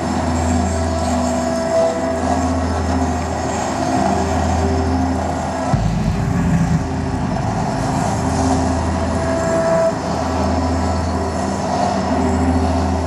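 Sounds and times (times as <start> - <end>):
electronic drone with held tones: 0.0 - 13.0.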